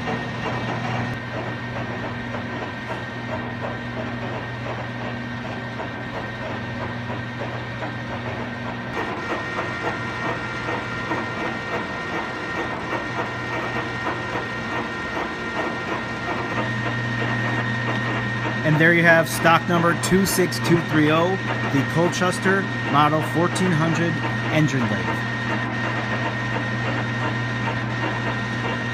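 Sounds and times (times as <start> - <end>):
lathe running: 0.0 - 28.9.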